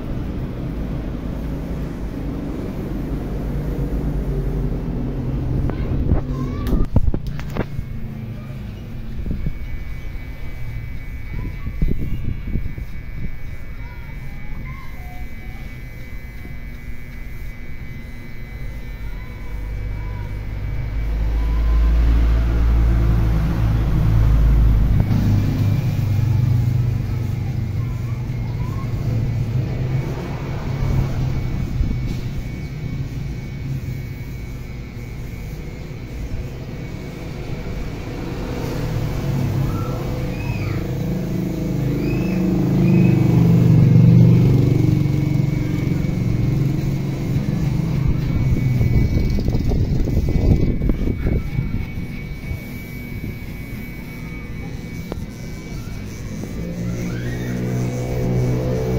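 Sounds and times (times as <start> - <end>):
vehicles passing with low rumble: 0.0 - 14.3, 17.3 - 58.9.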